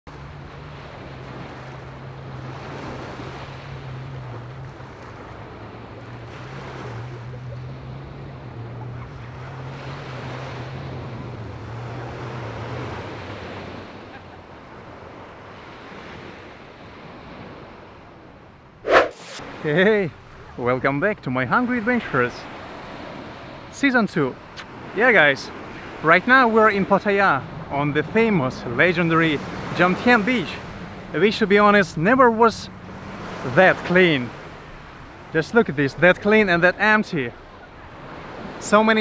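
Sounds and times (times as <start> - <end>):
sea waves washing onto beach: 0.1 - 18.3, 19.0 - 39.0.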